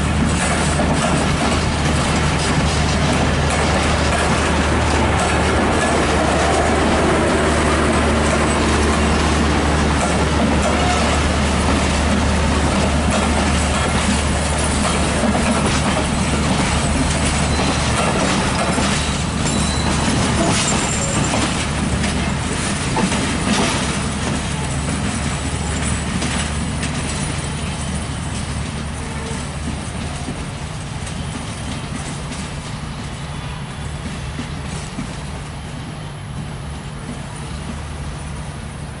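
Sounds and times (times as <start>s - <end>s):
wheels clicking over rail joints: 0.0s - 32.8s
train coaches rumbling past: 0.0s - 39.0s.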